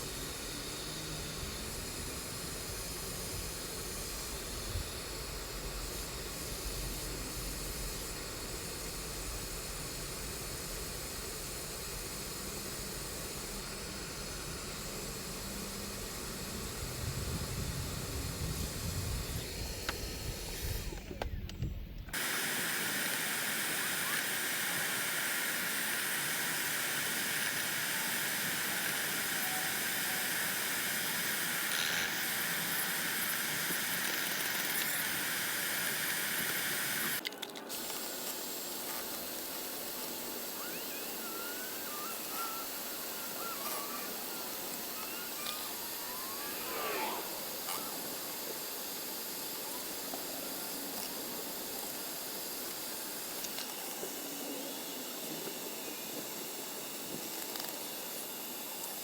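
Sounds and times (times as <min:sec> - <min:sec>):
spray can hissing: 0:00.0 - 0:21.0, 0:22.1 - 0:59.0.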